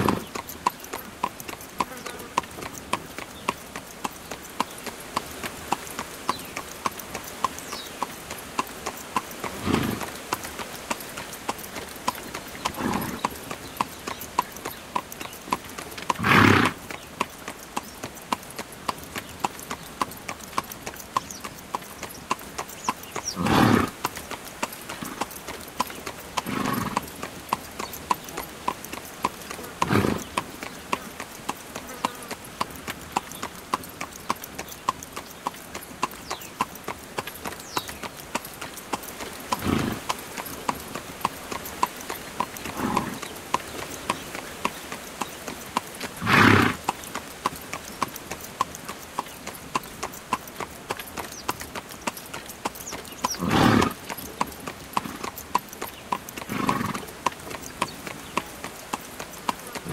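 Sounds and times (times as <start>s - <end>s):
hooves clip-clopping on asphalt: 0.0s - 59.9s.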